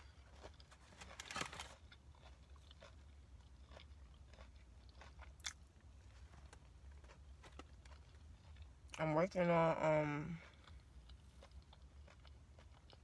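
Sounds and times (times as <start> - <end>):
crunchy chewing and mouth clicks: 0.0 - 13.0.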